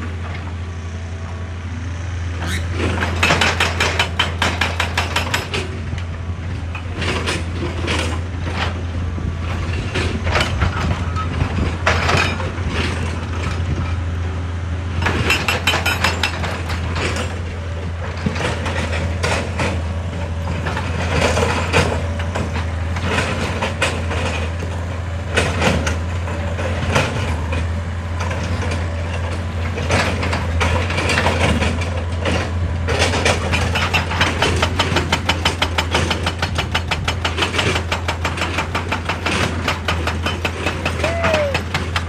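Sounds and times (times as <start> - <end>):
excavator diesel engine under load: 0.0 - 42.0.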